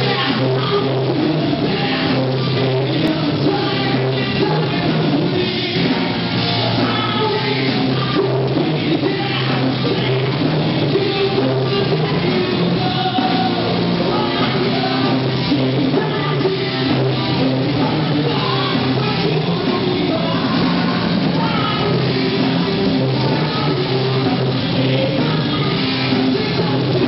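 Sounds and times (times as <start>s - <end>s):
bass guitar: 0.0s - 27.0s
distorted electric guitars: 0.0s - 27.0s
drums: 0.0s - 27.0s
vocalist singing: 0.0s - 27.0s.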